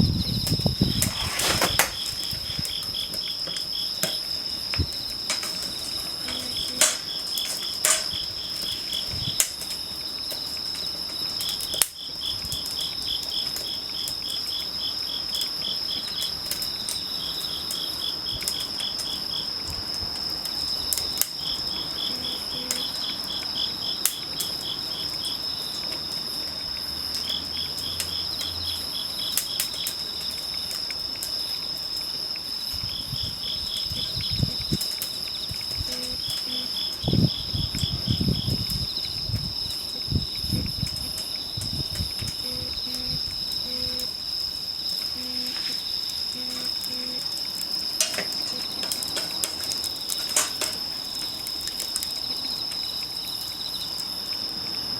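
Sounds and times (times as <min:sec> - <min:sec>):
campfire crackling and popping: 0:00.0 - 0:54.9
insect chirping in short runs: 0:00.0 - 0:54.9
insect trill: 0:00.0 - 0:54.9.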